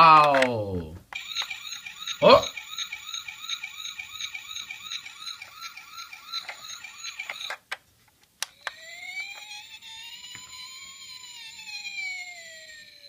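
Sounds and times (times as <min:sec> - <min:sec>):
toy siren wailing: 0:01.2 - 0:07.6, 0:08.6 - 0:13.0.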